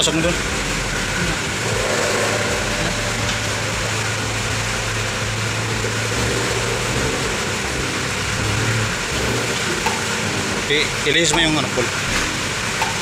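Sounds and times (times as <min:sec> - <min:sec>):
machine humming steadily: 0:00.0 - 0:13.0.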